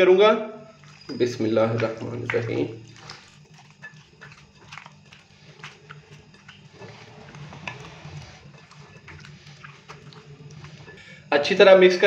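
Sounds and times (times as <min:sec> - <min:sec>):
wet meat squelching: 0:00.6 - 0:11.0.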